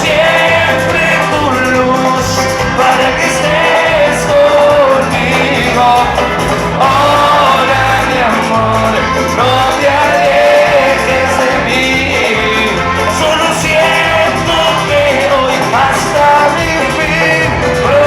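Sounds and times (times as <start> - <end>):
live cuarteto band music: 0.0 - 18.0.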